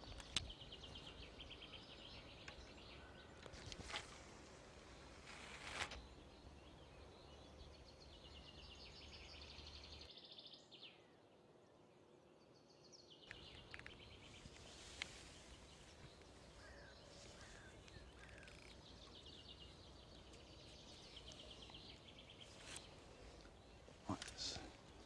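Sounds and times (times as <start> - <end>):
birds singing: 0.0 - 5.2, 6.0 - 25.0.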